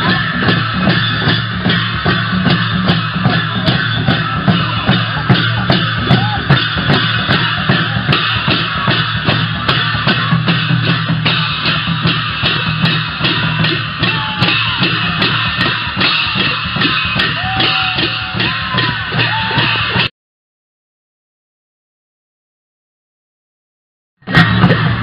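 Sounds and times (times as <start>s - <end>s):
barrel drums beating: 0.0s - 20.1s, 24.2s - 25.0s
hand cymbals clashing: 0.0s - 20.1s.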